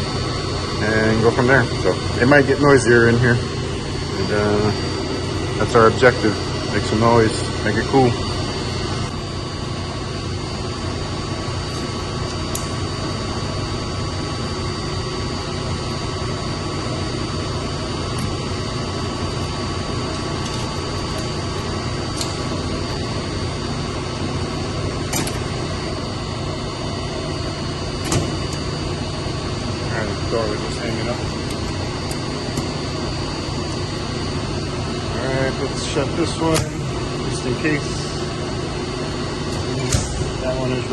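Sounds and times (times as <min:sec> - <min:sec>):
machinery drone: 0:00.0 - 0:40.9.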